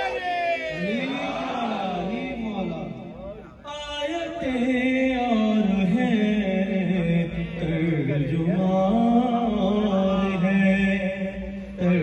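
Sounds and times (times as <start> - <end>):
man chanting into a microphone: 1.8 - 12.0.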